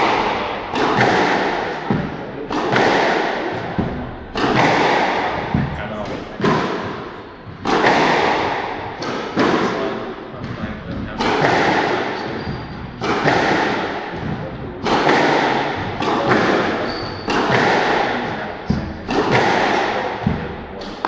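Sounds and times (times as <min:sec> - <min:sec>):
squash ball banging off walls: 0:00.0 - 0:21.0.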